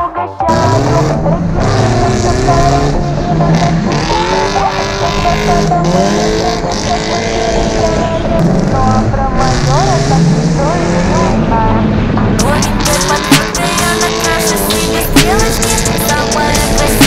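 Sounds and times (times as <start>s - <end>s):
road and tyre noise: 0.0s - 17.0s
car engine revving hard: 0.4s - 17.0s.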